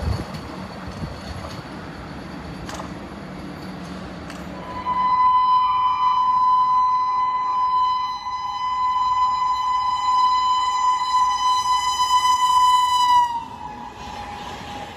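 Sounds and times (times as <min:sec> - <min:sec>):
train rumbling on track: 0:00.0 - 0:14.9.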